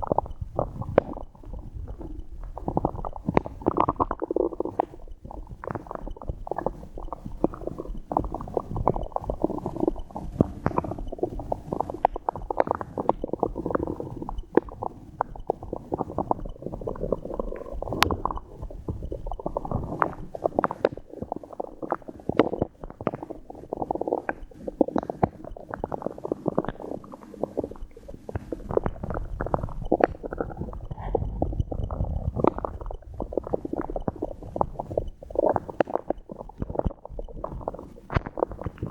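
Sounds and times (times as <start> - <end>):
stomach gurgling and rumbling: 0.0 - 38.9.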